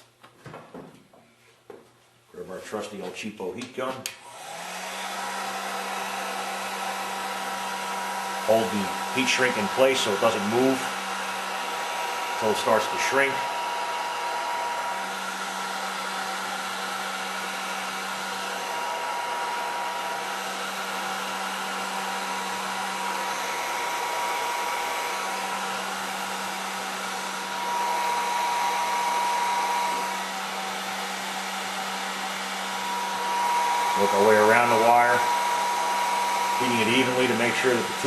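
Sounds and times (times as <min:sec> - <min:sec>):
heat gun blowing with a hum: 0:04.0 - 0:38.0.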